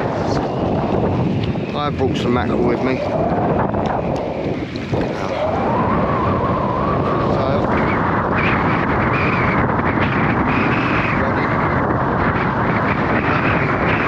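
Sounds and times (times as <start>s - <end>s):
engine drone: 0.0s - 14.0s
wind rumbling on microphone: 0.0s - 14.0s.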